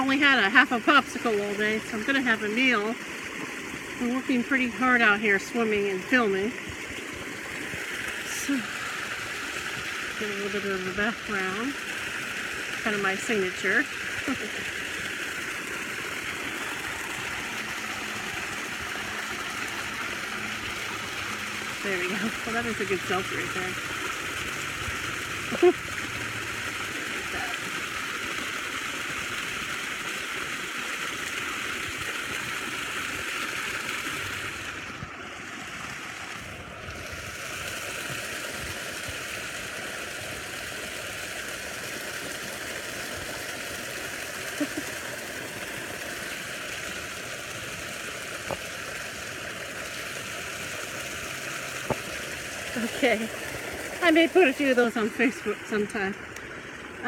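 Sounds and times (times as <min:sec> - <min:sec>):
waterfall splashing into pool: 0:00.0 - 0:57.0.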